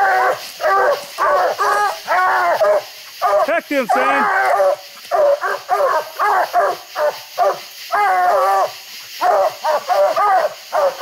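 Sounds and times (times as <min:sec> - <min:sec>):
hounds barking: 0:00.0 - 0:11.0.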